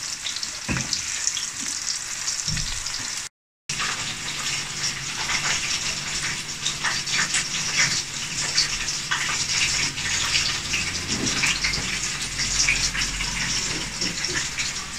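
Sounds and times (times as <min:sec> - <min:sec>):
food deep-frying in oil: 0:00.0 - 0:14.9.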